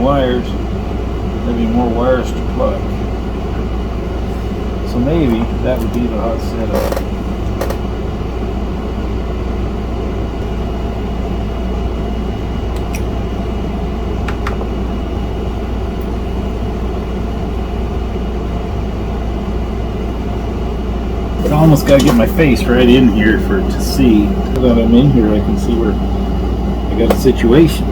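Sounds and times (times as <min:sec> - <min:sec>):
fan hum: 0:00.0 - 0:27.9.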